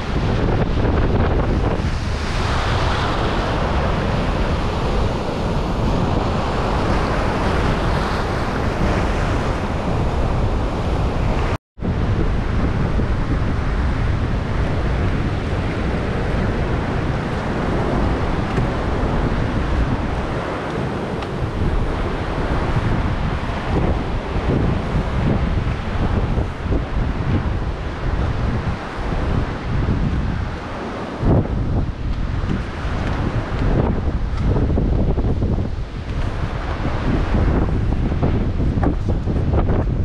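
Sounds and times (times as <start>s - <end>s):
surf washing over sand: 0.0s - 40.0s
wind rumbling on microphone: 0.0s - 40.0s.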